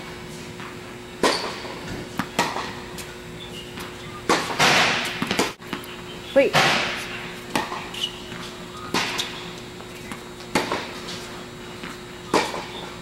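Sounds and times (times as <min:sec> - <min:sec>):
tennis balls bouncing on court: 0:00.6 - 0:03.1, 0:03.7 - 0:11.2, 0:11.8 - 0:12.8
tennis balls struck by rackets: 0:00.6 - 0:03.1, 0:03.8 - 0:05.8, 0:06.4 - 0:11.2, 0:11.8 - 0:12.8.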